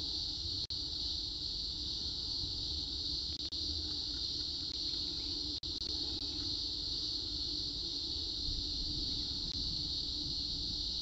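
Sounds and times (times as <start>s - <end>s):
high-pitched buzzing drone: 0.0s - 11.0s.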